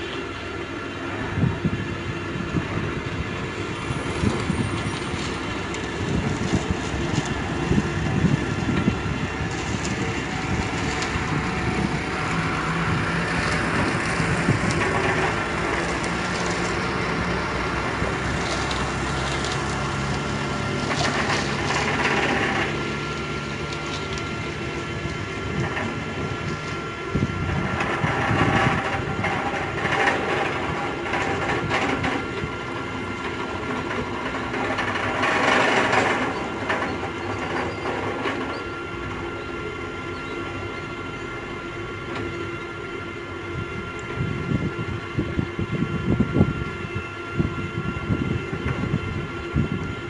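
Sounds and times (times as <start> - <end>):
bending machine running: 0.0 - 50.0
low hum: 0.0 - 50.0.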